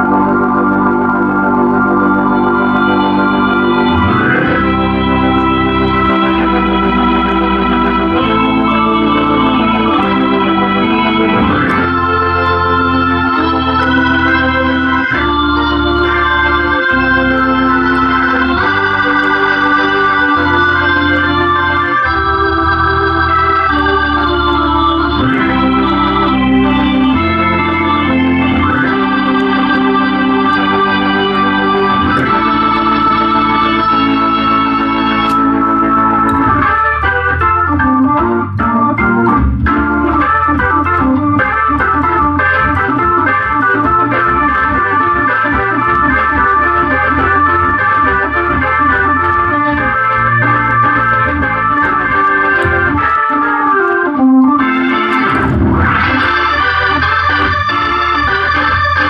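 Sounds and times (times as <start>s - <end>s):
organ chords and bass line: 0.0s - 59.0s.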